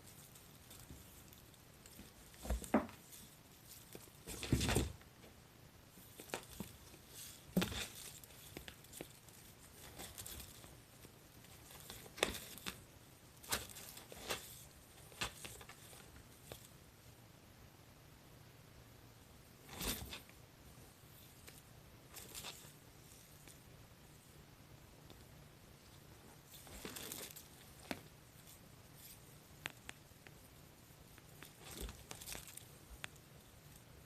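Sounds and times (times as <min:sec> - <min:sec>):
rustling and crinkling: 0:00.0 - 0:16.8, 0:19.6 - 0:24.4, 0:25.0 - 0:34.0.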